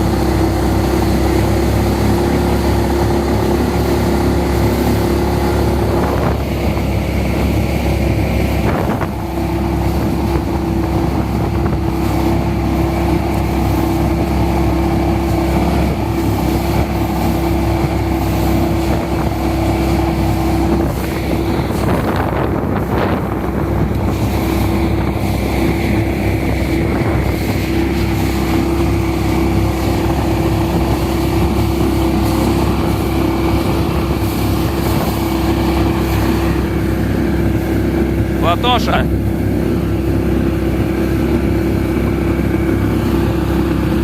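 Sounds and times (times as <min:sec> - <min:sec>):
wind noise on microphone: 0:00.0 - 0:38.4
boat motor running steadily: 0:00.0 - 0:44.0
short wash of noise: 0:01.2 - 0:39.9.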